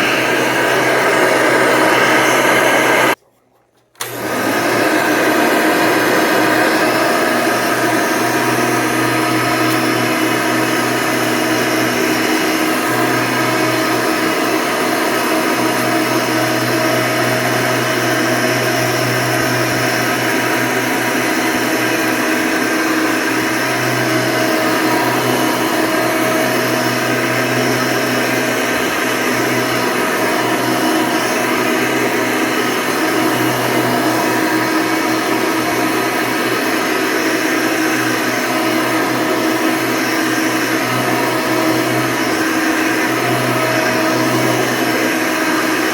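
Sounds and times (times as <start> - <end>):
vacuum cleaner whine and air rush: 0.0 - 3.2, 4.0 - 45.9.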